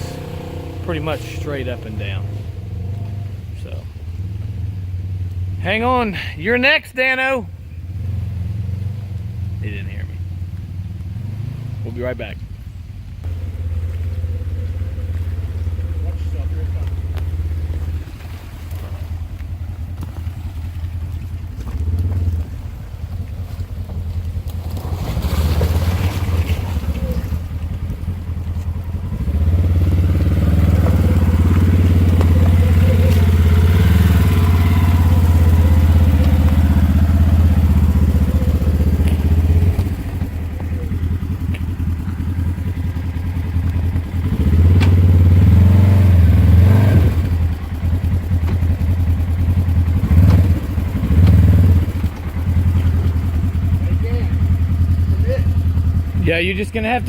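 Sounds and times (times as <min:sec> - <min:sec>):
off-road vehicle engine working hard: 0:00.0 - 0:57.0.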